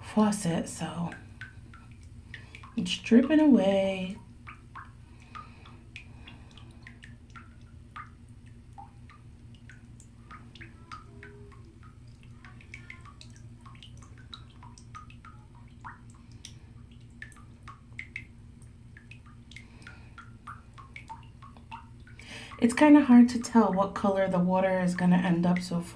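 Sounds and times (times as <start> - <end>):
bath bomb fizzing: 0.0 - 25.9
faucet dripping into bathtub: 0.0 - 25.9
steady low hum: 0.0 - 25.9.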